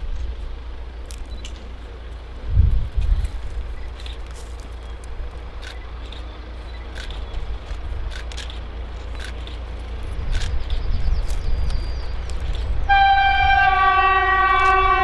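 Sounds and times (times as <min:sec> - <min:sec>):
distant locomotive rumble: 0:00.0 - 0:15.0.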